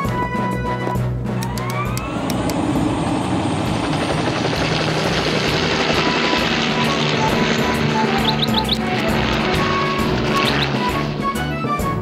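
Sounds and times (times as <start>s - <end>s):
helicopter engine and rotor: 1.4s - 11.8s.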